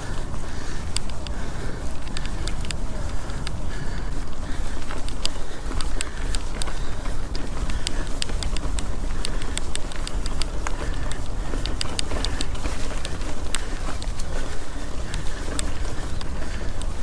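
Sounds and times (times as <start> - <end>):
bike ticks and rattles: 0.0 - 17.0
bike tyres rumbling on dirt: 0.0 - 17.0
wind on microphone: 0.0 - 17.0.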